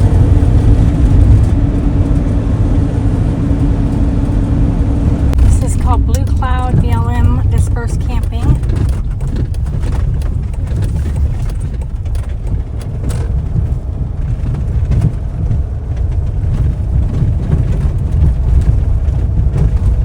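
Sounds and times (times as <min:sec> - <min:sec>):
vehicle driving rumble: 0:00.0 - 0:20.0.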